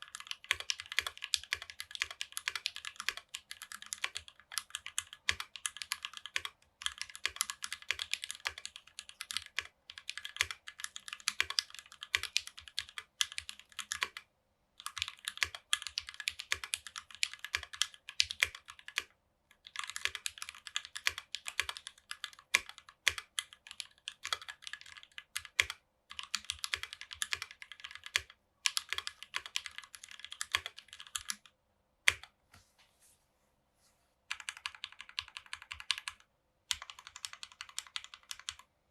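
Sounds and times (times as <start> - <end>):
mechanical keyboard typing: 0.0 - 14.2, 14.8 - 31.5, 32.1 - 32.3, 34.3 - 38.7.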